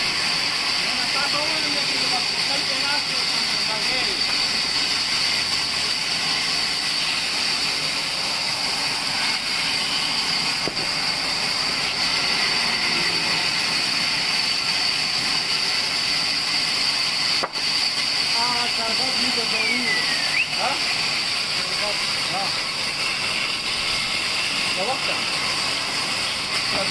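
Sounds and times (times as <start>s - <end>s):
band saw running: 0.0s - 26.9s.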